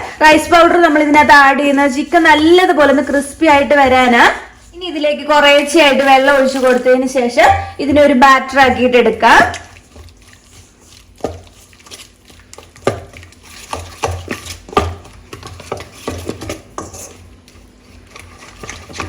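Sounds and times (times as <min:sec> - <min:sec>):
spoon stirring thick batter: 0:00.0 - 0:19.0.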